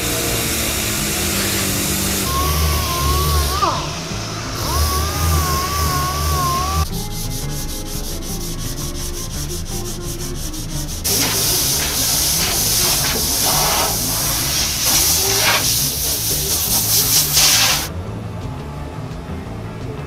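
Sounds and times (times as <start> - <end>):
sanding car body panel: 0.0 - 3.6, 4.6 - 17.9.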